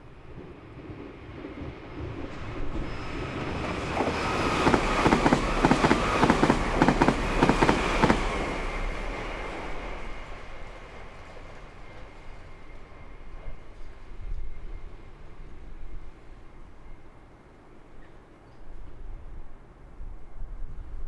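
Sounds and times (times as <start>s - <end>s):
train rumbling past: 0.0s - 17.1s.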